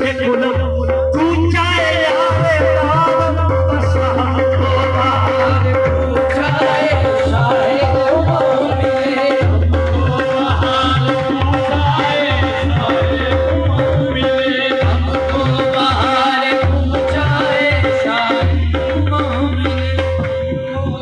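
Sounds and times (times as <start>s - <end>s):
hand drums rhythm: 0.0s - 21.0s.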